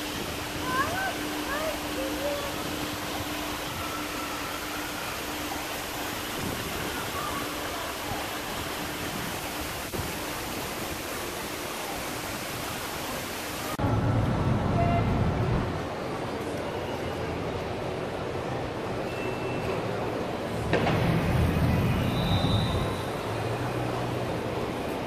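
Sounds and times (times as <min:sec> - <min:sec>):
loud low water rumble: 0:00.0 - 0:16.4, 0:20.0 - 0:25.0
fountain water rushing: 0:00.0 - 0:25.0.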